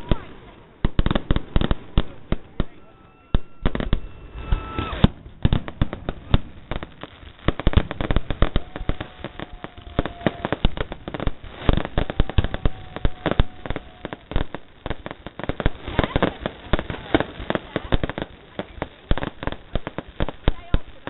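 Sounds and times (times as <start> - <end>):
firecrackers banging: 0.0 - 21.0.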